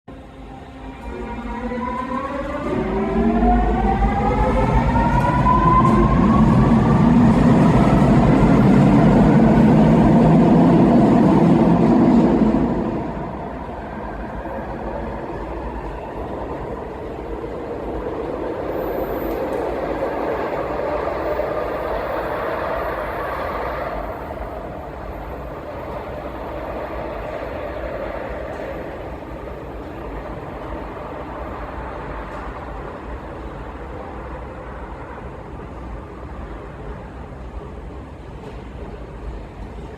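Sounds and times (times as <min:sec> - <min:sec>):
rail running noise: 0:00.1 - 0:39.9.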